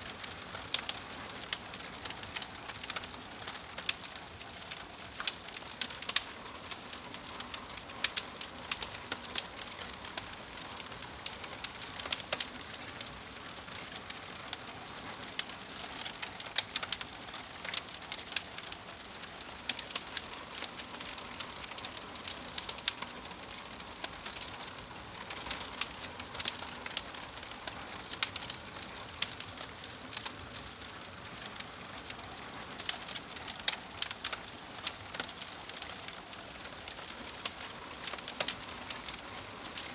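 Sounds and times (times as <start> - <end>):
fire crackling with pops and snaps: 0.0 - 39.9.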